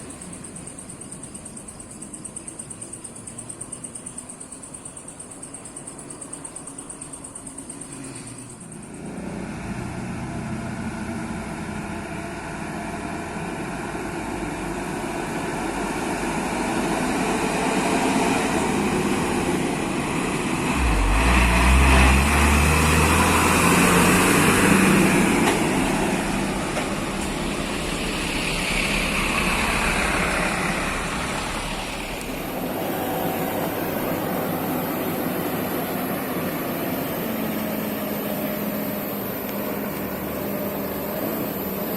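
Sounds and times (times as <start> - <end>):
road traffic noise: 0.0 - 41.9
vehicle passing with engine rumble: 7.2 - 41.9.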